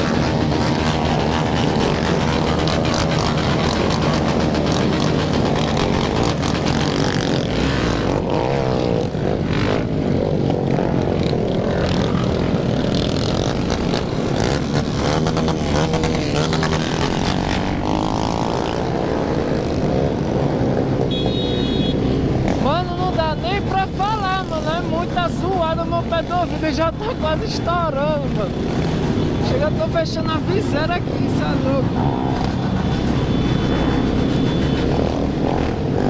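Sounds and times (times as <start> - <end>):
motorcycles revving: 0.0 - 36.0.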